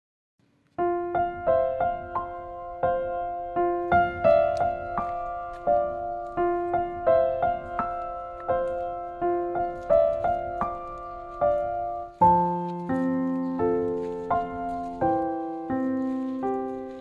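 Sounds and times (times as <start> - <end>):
slow piano notes: 0.7 - 17.0.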